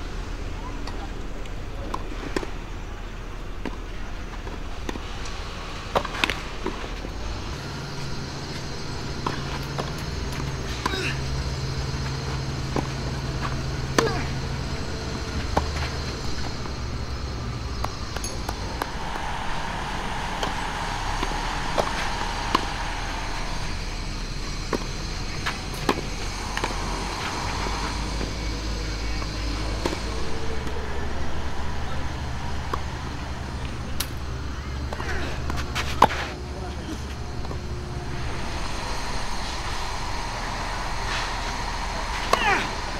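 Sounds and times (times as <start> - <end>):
outdoor background hum: 0.0 - 42.9.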